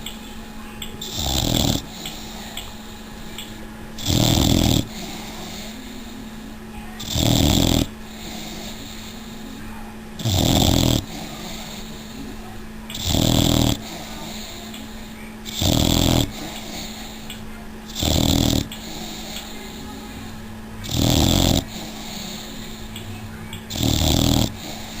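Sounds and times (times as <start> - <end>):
puppy snoring: 0.0 - 23.1, 23.7 - 25.0
faint steady hum: 0.0 - 25.0.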